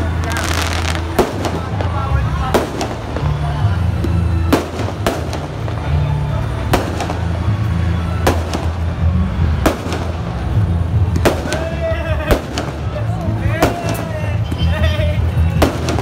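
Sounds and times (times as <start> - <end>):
fireworks bursting: 0.0 - 14.7, 15.5 - 16.0.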